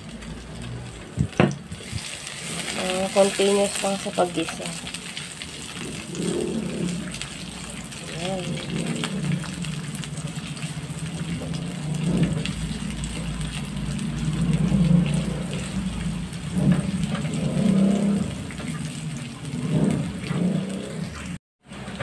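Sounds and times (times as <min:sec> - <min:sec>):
garlic and onion sizzling in oil: 0:00.0 - 0:22.0
spatula stirring and scraping: 0:01.7 - 0:21.3.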